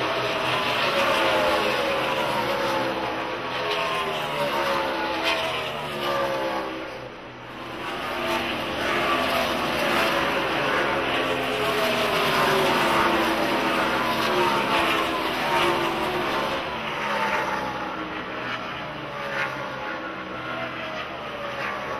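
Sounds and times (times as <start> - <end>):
race cars passing at full throttle: 0.0 - 21.9.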